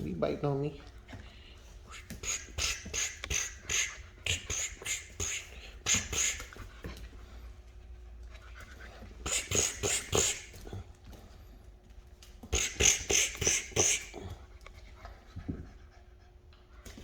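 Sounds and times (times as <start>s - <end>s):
puppies playing and mouthing: 0.0s - 17.0s.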